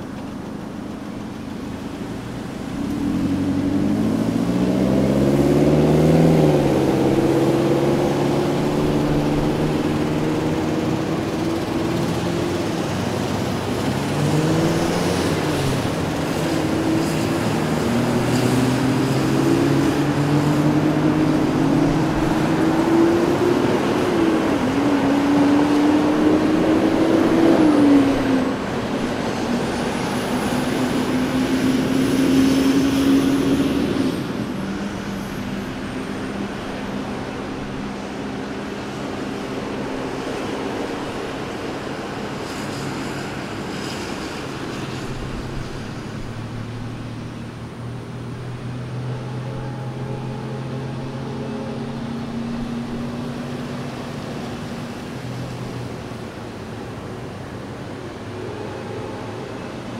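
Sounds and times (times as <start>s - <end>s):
steady road noise: 0.0s - 59.9s
vehicle engines accelerating: 0.0s - 59.9s.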